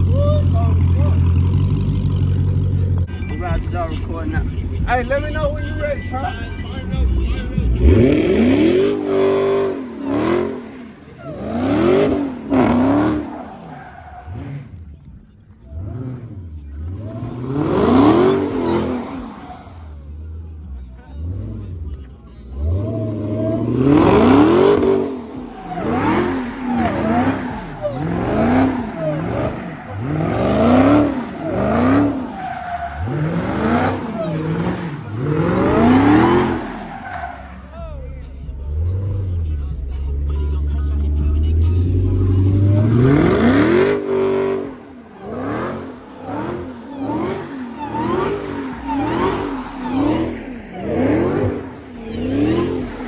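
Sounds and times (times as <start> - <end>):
car engine revving: 0.0 - 53.0
tires squealing: 0.0 - 53.0.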